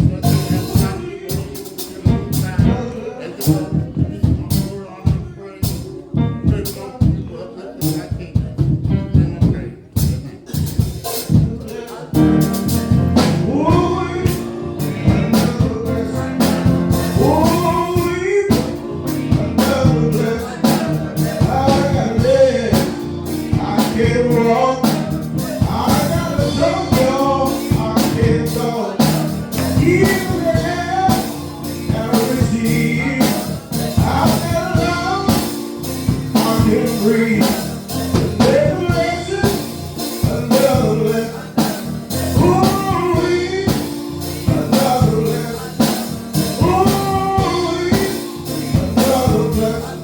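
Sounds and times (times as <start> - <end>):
band with drum kit: 0.0 - 50.0.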